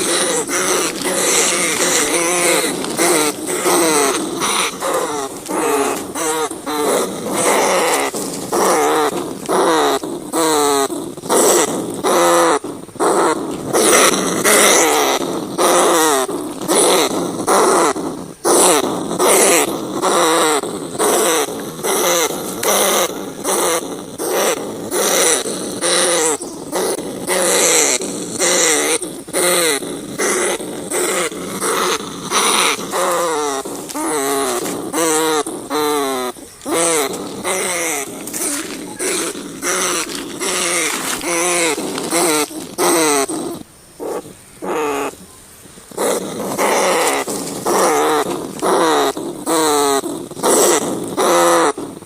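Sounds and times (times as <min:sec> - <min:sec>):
rats squealing and chattering: 0:00.0 - 0:52.0.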